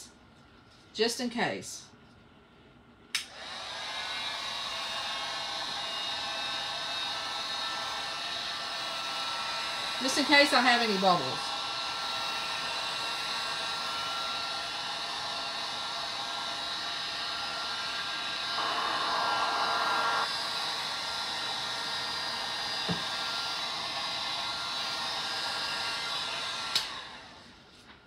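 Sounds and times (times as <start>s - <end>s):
heat gun blowing hot air: 3.2s - 27.4s.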